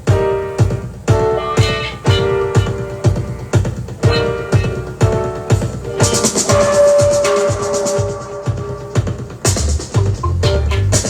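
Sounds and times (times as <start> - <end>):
dub reggae music: 0.0 - 11.0
heavy kick drum: 0.0 - 11.0
fast shaker or hi-hat: 1.4 - 11.0.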